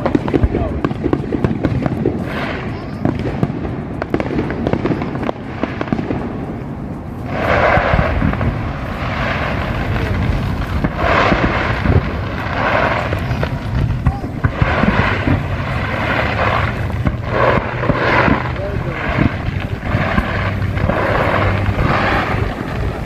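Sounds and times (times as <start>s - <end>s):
fireworks crackling: 0.0s - 23.0s
fireworks pops and booms: 0.0s - 23.0s.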